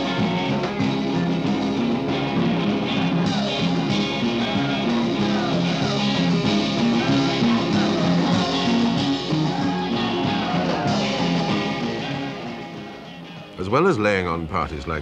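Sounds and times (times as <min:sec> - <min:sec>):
people singing: 0:00.0 - 0:01.4, 0:02.8 - 0:13.5
live rock and roll band: 0:00.0 - 0:15.0.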